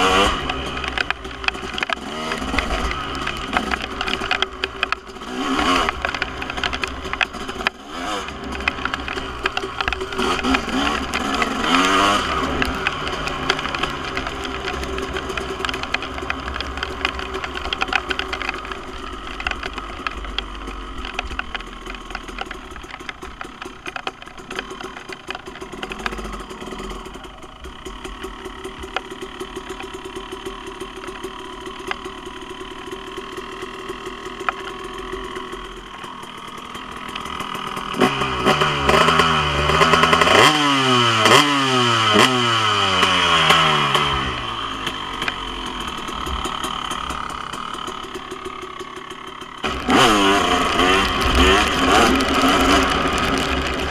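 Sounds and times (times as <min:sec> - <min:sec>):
dirt bike engine idling and revving: 0:00.0 - 0:53.9.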